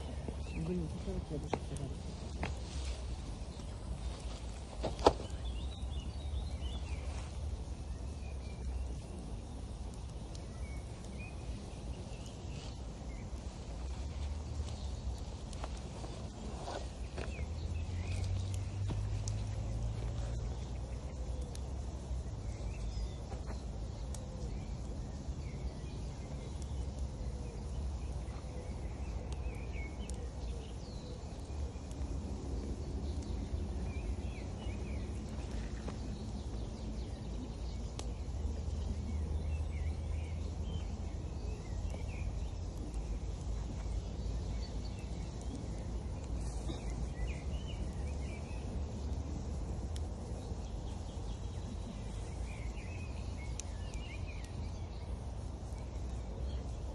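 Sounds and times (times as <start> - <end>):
campfire crackling: 0.0 - 56.9
small birds chirping: 0.0 - 56.9.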